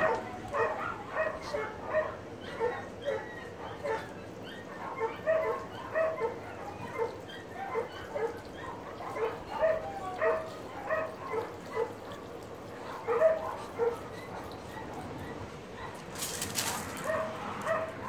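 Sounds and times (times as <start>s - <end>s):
dog yipping and whining: 0.0s - 18.0s.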